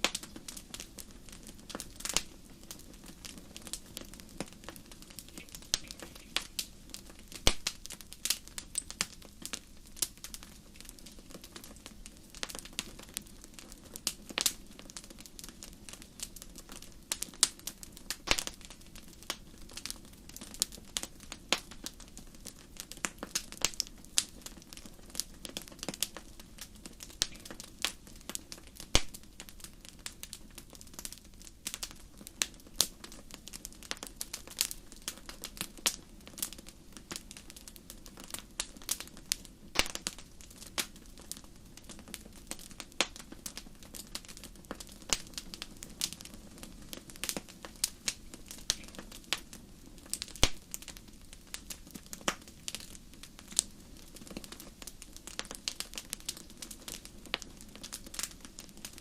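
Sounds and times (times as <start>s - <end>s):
fire pops and snaps: 0.0s - 59.0s
low rumble of flames: 0.0s - 59.0s
wood fire crackling: 0.0s - 59.0s.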